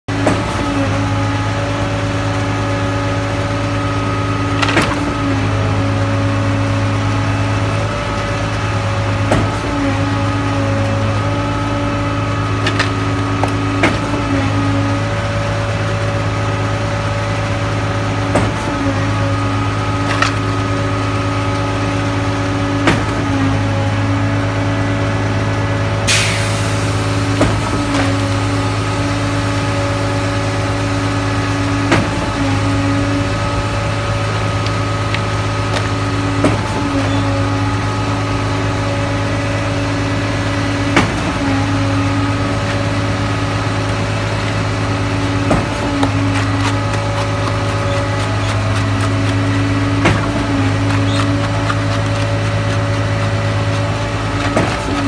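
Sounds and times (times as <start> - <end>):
concrete pump humming and knocking: 0.0 - 55.0.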